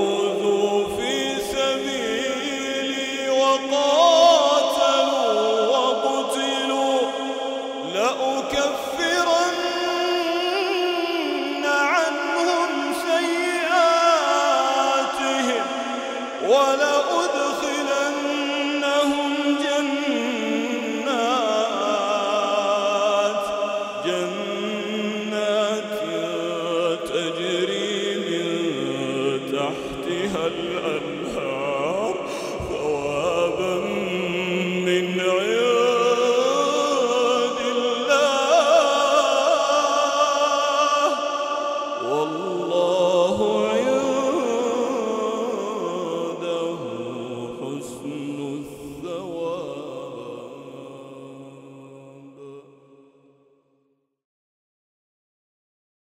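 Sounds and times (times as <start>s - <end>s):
man reciting melodically: 0.0s - 52.7s.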